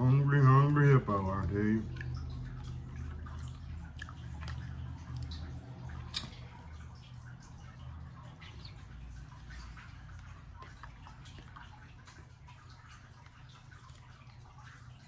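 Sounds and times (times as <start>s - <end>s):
wet chewing: 1.4s - 15.0s.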